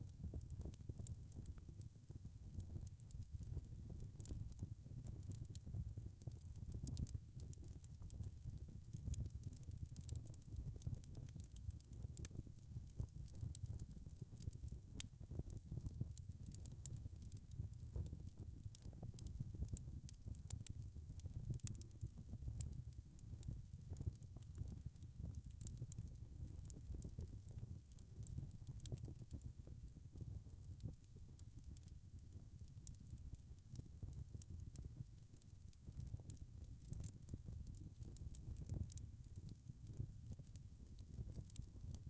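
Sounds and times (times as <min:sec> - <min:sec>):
low rumble of burning: 0:00.0 - 0:42.0
wood fire crackling: 0:00.1 - 0:42.0.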